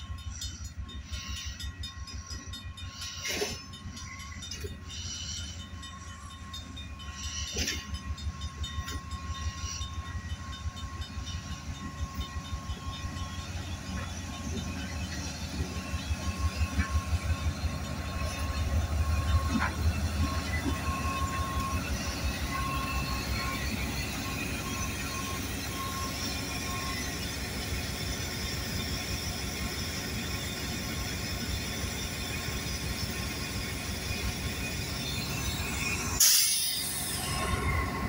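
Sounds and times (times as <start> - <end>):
diesel locomotive engine rumble: 0.0 - 38.0
train wheels on rails: 0.0 - 38.0
faint high squeal: 0.2 - 38.0.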